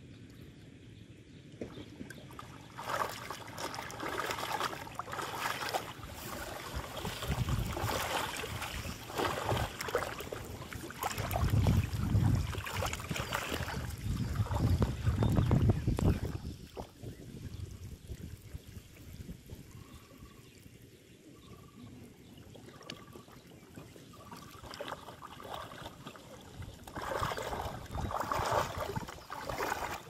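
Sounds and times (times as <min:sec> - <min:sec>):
water splashing and sloshing: 0:01.5 - 0:20.3, 0:22.2 - 0:30.0.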